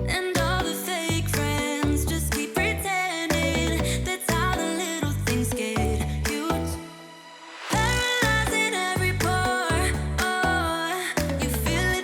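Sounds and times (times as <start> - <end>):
pop music with heavy bass beat: 0.0 - 12.0.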